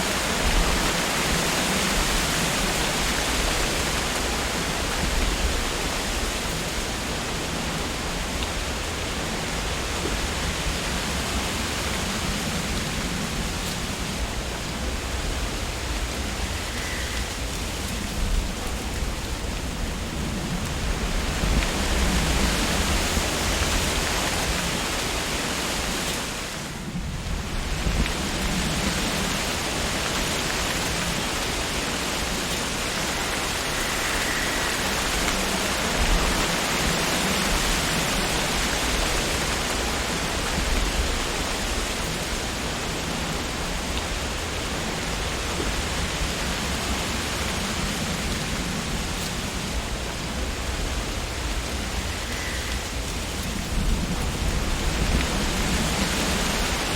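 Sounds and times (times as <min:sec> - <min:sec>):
wind rustling tree leaves: 0:00.0 - 0:56.9.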